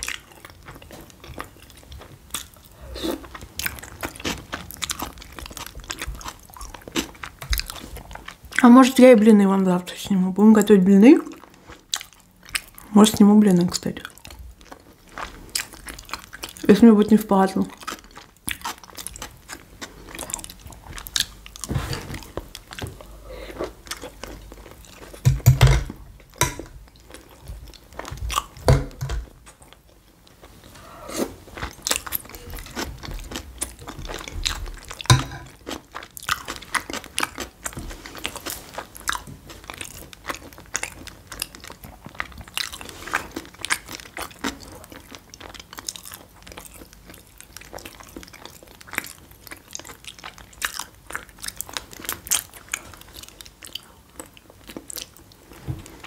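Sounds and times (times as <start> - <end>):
person chewing and crunching food: 0.0 - 56.0.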